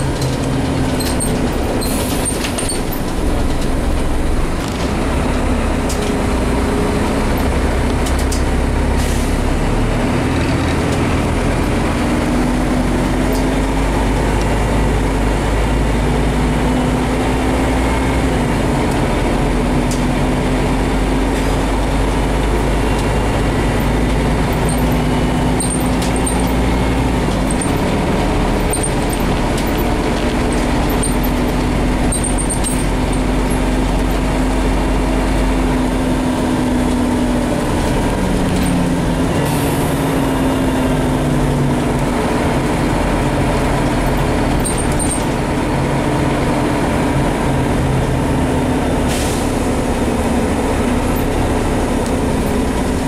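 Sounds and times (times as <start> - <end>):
bus engine accelerating: 0.0 - 53.0.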